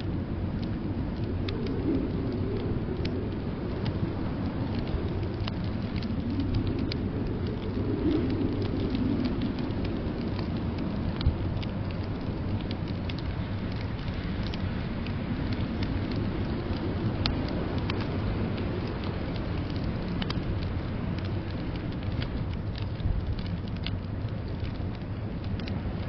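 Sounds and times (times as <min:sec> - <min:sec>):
blizzard wind rushing: 0:00.0 - 0:26.0
wood fire crackling and popping: 0:00.0 - 0:26.0.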